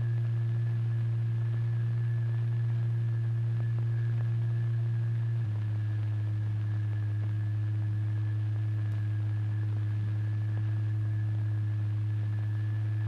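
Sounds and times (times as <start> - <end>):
low-pitched hum with higher tones: 0.0 - 13.0.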